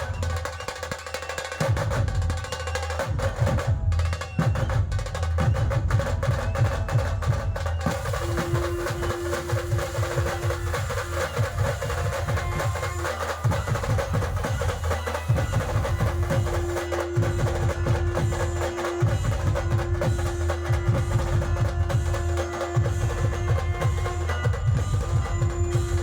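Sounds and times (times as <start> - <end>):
drum band playing fast beat: 0.0 - 26.0.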